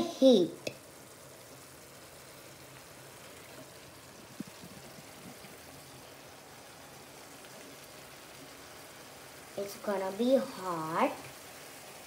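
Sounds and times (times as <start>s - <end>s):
puree simmering and sizzling: 0.0s - 12.0s.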